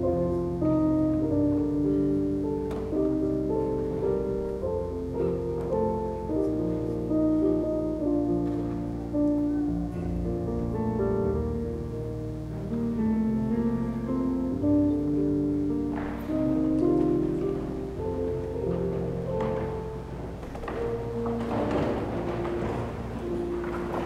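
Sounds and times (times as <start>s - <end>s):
slow keyboard chords: 0.0s - 24.0s.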